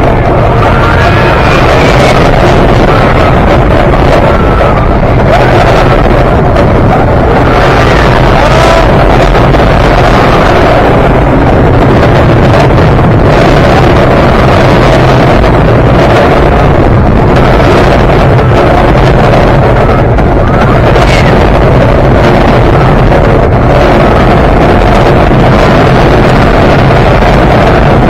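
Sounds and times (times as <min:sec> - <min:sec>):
roller coaster rumbling on track: 0:00.0 - 0:28.0
wind buffeting microphone: 0:00.0 - 0:28.0.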